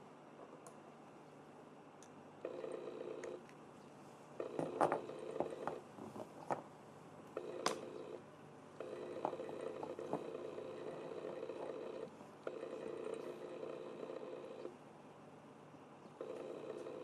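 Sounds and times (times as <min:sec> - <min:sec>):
electric hum: 0:00.0 - 0:17.0.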